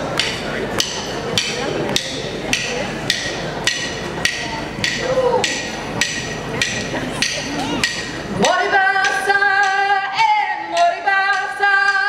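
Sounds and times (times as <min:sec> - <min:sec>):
drum struck with stick: 0:00.1 - 0:09.9.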